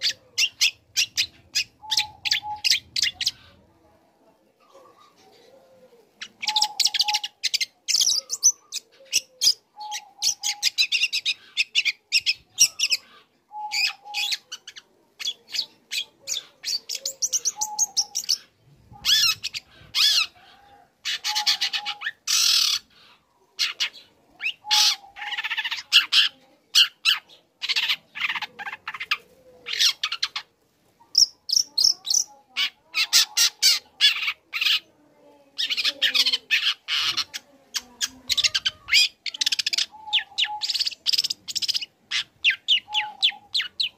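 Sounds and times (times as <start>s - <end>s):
bird chattering song: 0.0s - 3.6s, 6.2s - 20.3s, 21.0s - 34.9s, 35.6s - 43.9s.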